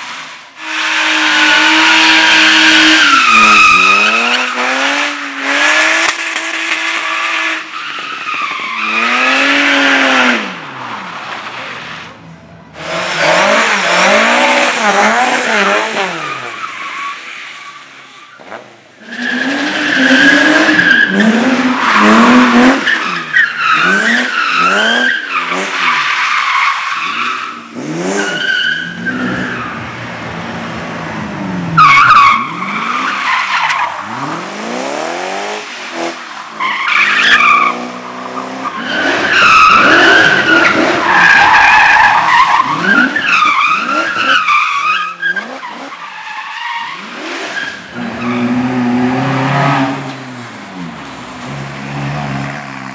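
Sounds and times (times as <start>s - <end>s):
race car engines revving: 0.0s - 52.9s.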